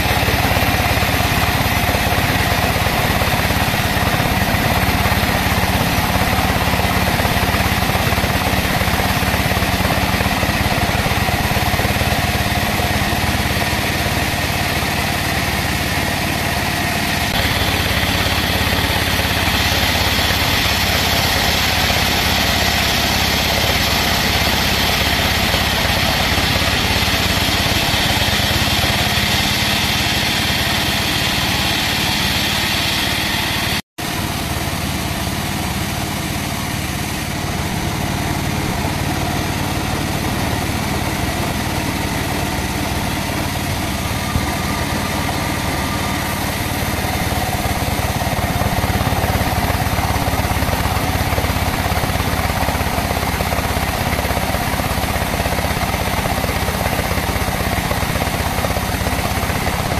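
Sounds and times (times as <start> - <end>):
band saw cutting log: 0.0 - 59.9.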